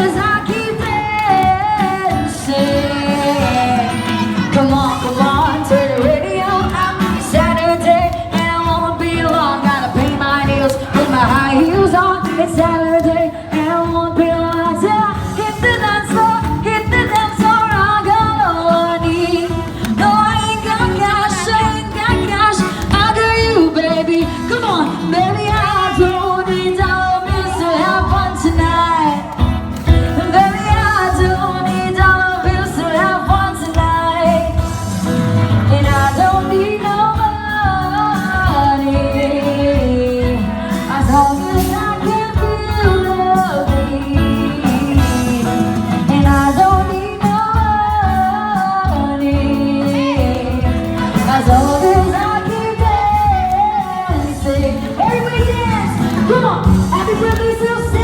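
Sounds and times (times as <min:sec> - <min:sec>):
acoustic band playing pop song: 0:00.0 - 0:58.0
person singing: 0:00.0 - 0:58.0.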